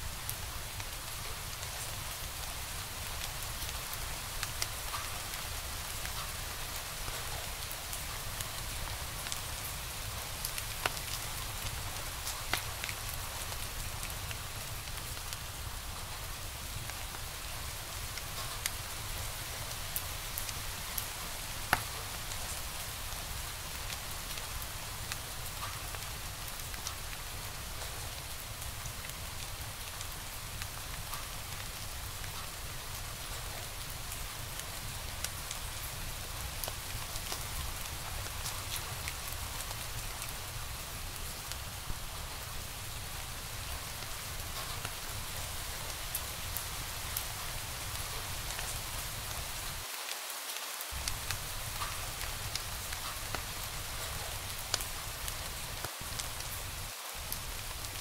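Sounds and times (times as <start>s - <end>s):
wood fire crackling: 0.0s - 49.9s, 50.9s - 58.0s.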